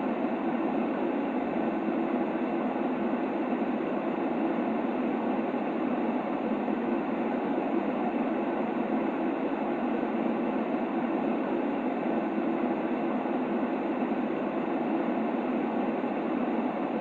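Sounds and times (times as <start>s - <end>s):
muffled white noise: 0.0s - 17.0s.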